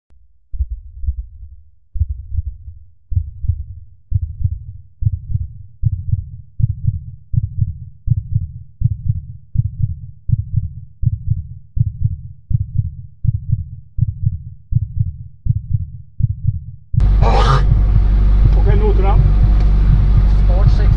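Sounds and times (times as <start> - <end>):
heartbeat thumps: 0.5 - 20.9.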